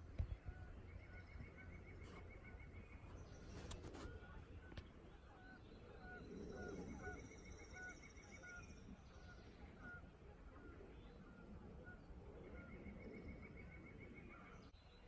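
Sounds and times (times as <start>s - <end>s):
songbirds trilling: 0.0s - 15.0s.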